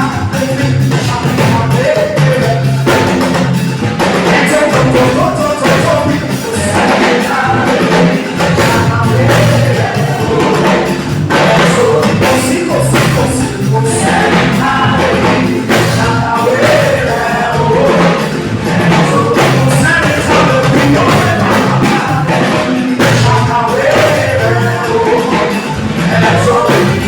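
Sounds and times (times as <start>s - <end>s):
drums beating: 0.0s - 27.0s
live band playing: 0.0s - 27.0s
person singing: 0.0s - 27.0s.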